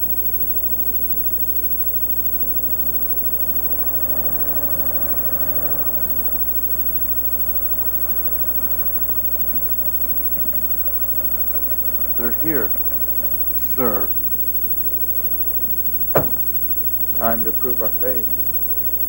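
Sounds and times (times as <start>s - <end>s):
faint car engine running: 0.0s - 19.0s
steady low hum and hiss: 0.0s - 19.0s.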